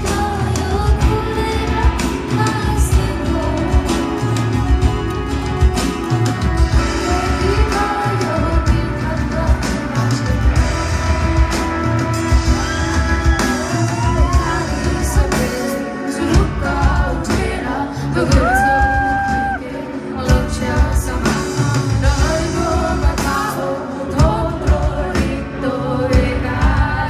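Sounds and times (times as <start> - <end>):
live band playing: 0.0 - 27.0
woman singing: 0.0 - 27.0.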